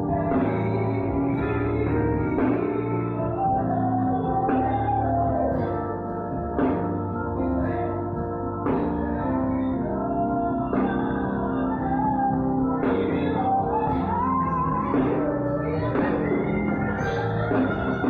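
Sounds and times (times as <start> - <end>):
keyboard chords: 0.0 - 18.0
person singing: 0.0 - 18.0.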